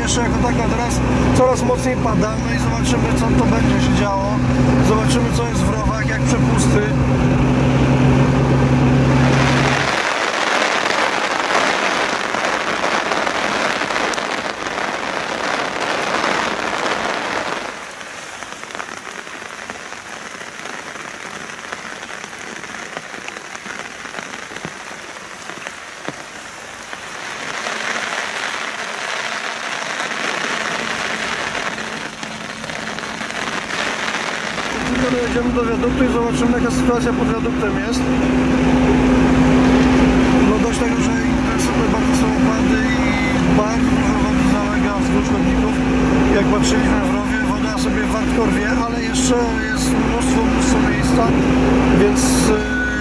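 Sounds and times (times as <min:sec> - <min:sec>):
car engine hum: 0:00.0 - 0:53.0
heavy rain pouring: 0:00.0 - 0:53.0.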